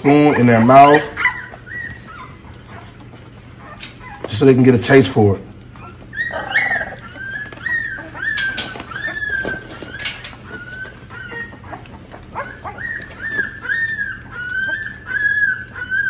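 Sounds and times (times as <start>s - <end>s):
puppies whining and crying: 0.0s - 16.0s.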